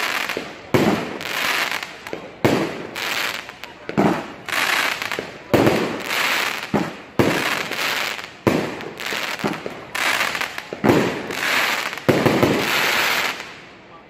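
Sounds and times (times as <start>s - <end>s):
firework reports: 0.0s - 14.0s.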